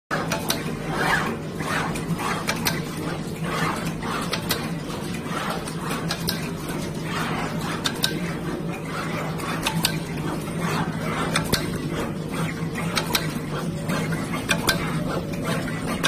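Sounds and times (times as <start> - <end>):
machine head whirring: 0.1 - 16.0.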